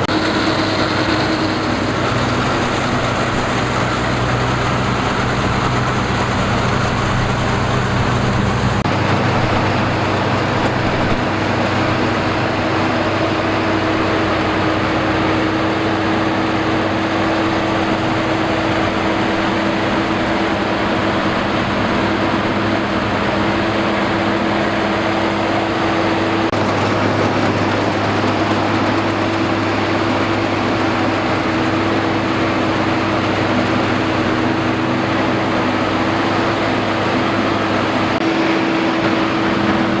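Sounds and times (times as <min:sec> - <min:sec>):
harvester engine droning: 0:00.0 - 0:40.0.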